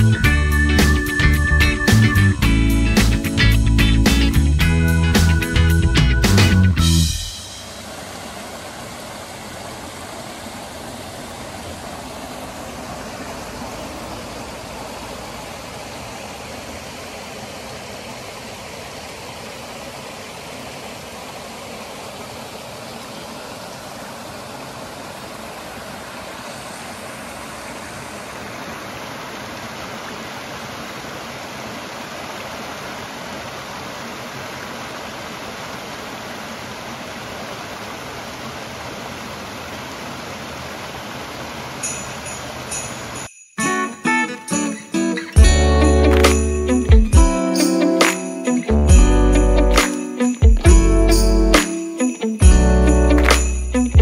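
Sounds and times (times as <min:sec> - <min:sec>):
creek water rushing over rocks: 0:07.1 - 0:43.4, 0:45.0 - 0:54.0.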